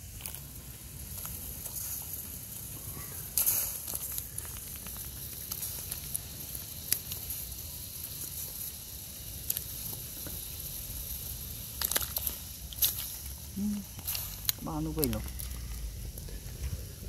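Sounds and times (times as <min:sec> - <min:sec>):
broth bubbling in a wok: 0:00.0 - 0:17.0
fire crackling: 0:00.0 - 0:17.0.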